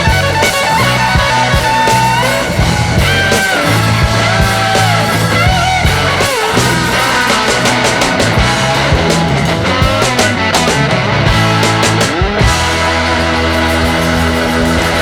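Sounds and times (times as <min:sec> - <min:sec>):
electric guitar bending notes: 0:00.0 - 0:15.0
rock music: 0:00.0 - 0:15.0
steady bass line: 0:00.0 - 0:15.0.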